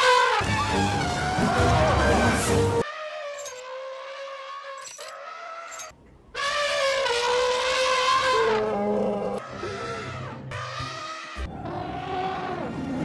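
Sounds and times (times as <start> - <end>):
elephant trumpeting: 0.0 - 13.0.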